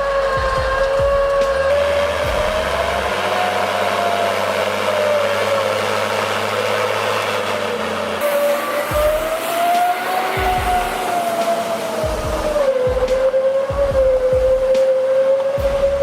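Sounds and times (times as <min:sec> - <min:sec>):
vehicle engine running hard: 0:00.0 - 0:16.0.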